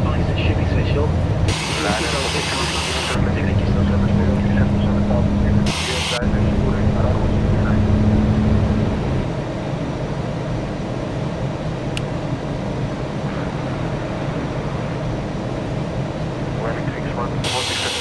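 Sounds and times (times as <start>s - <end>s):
aircraft engines rumbling in cabin: 0.0s - 18.0s
low hum: 0.0s - 18.0s.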